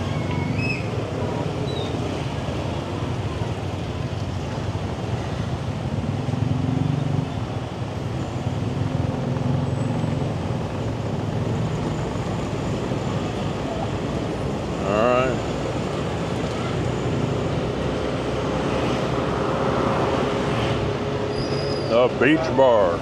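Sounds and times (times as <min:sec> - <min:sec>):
city traffic: 0:00.0 - 0:23.0.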